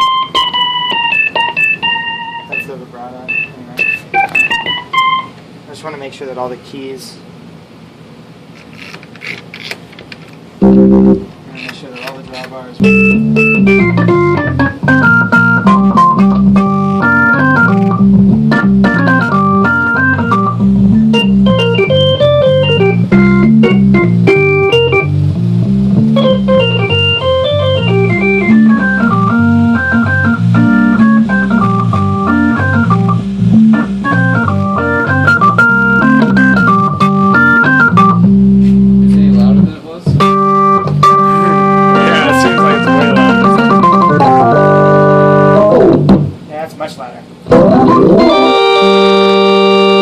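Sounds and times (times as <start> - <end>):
organ playing: 0.0 - 5.4, 10.6 - 11.4, 12.8 - 46.3, 47.5 - 50.0.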